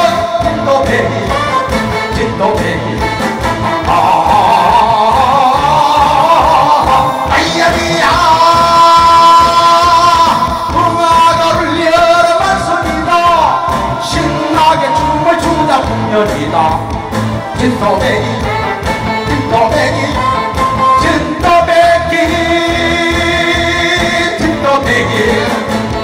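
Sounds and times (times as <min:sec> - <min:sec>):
backing music with steady beat: 0:00.0 - 0:26.0
man singing into a microphone: 0:00.0 - 0:26.0.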